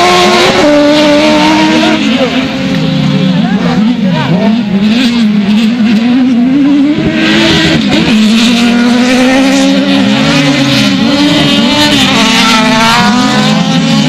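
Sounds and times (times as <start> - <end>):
race car engines accelerating: 0.0 - 14.0.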